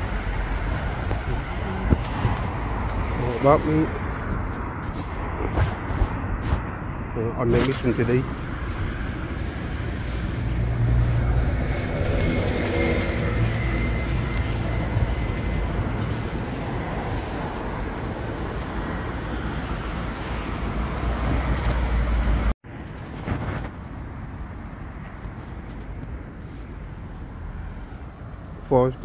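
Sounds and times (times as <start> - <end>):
road traffic rumble: 0.0 - 29.0
steady outdoor hiss: 0.0 - 29.0.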